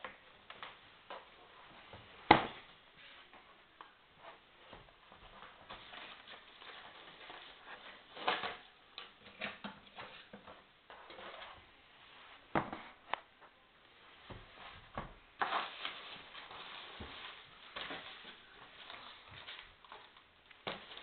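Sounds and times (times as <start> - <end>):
rustling: 0.1 - 21.0.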